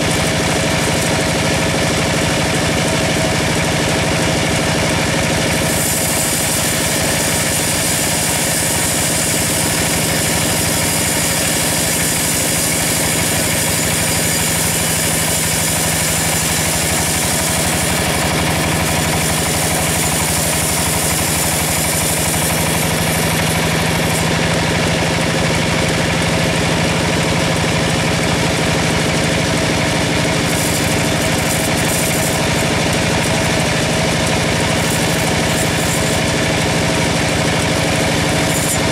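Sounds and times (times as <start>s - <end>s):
saw blade rasping through log: 0.0s - 38.9s
sawmill machine hum: 0.0s - 38.9s.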